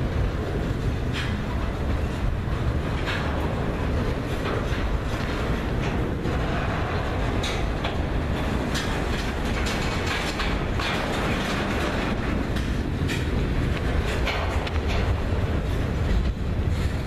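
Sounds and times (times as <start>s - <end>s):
train wheels rumbling on rail: 0.0s - 17.0s
wheels clacking over rail joints: 0.0s - 17.0s.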